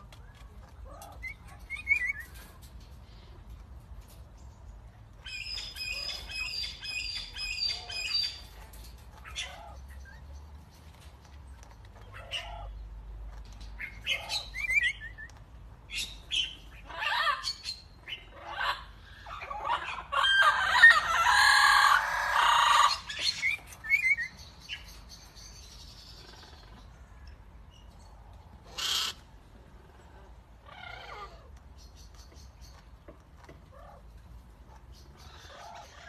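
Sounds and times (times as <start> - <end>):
parrots squawking and chirping: 0.6 - 4.1, 5.2 - 10.3, 10.9 - 26.9, 28.5 - 36.0.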